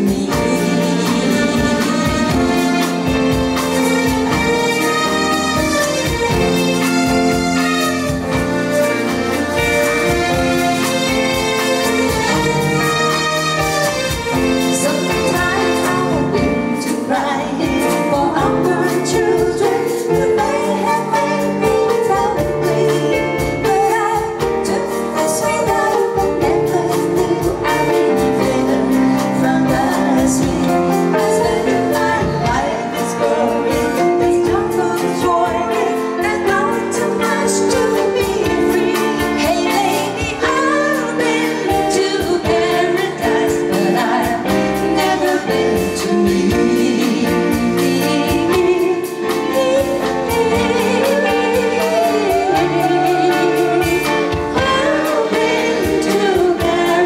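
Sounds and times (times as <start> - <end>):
live band playing: 0.0 - 57.0
woman singing: 0.0 - 57.0.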